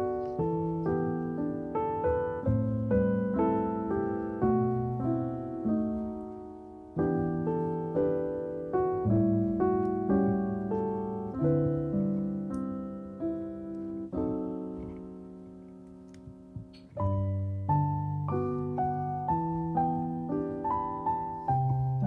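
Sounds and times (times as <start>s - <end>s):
slow gentle piano chords: 0.0s - 22.0s.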